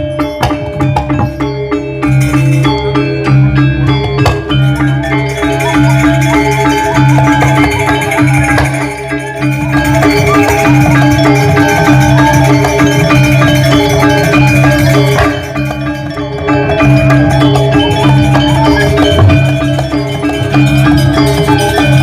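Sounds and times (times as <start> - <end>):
gamelan metallophones ringing: 0.0 - 22.0.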